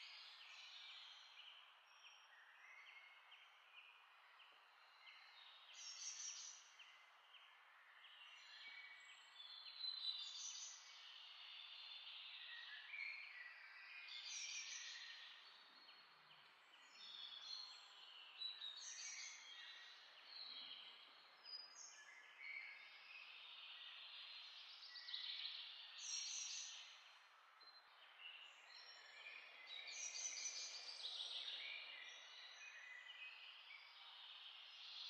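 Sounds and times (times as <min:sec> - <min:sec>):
faint birds chirping: 0:00.0 - 0:35.0.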